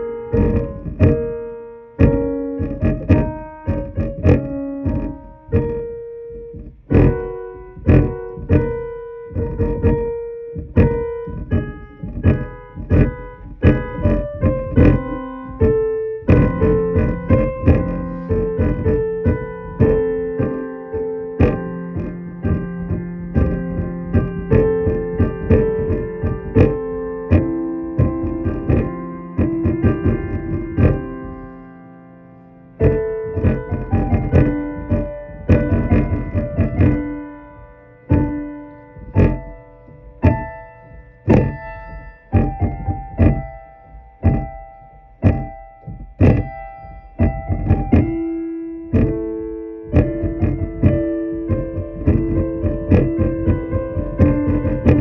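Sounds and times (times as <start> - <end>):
electric keyboard piano piece: 0.0 - 55.0.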